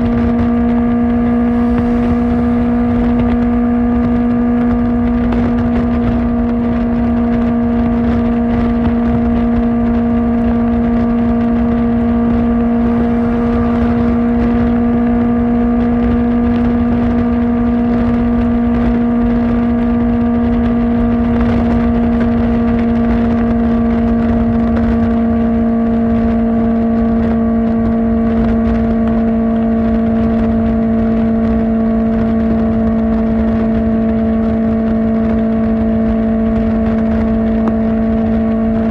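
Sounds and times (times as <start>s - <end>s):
motorcycle engine cruising at high revs: 0.0s - 38.9s.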